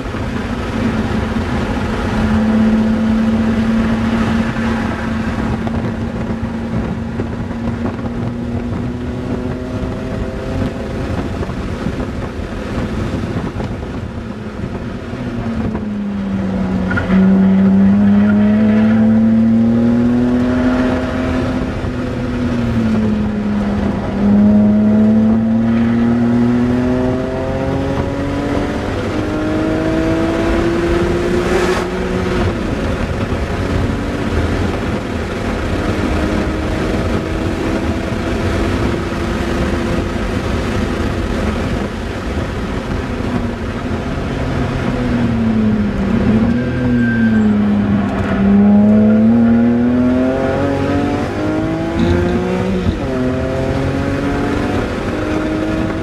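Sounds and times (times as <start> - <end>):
car engine racing: 0.0 - 56.0.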